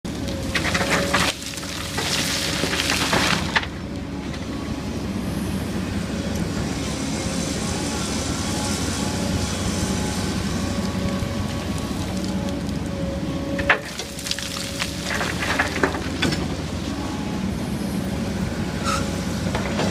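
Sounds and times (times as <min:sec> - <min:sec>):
heavy diesel engines running: 0:00.0 - 0:19.9.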